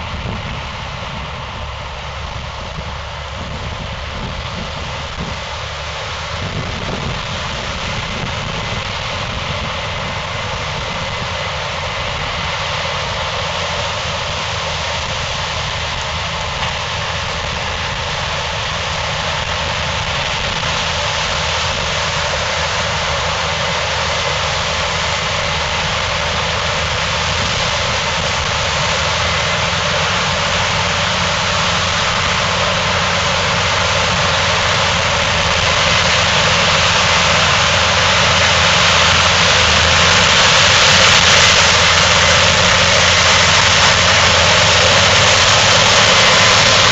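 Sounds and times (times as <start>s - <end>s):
combine harvester machinery running: 0.0s - 46.9s.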